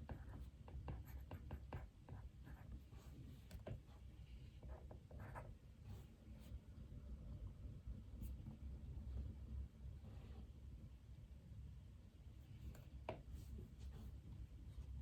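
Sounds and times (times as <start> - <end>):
faint low room hum: 0.0 - 15.0.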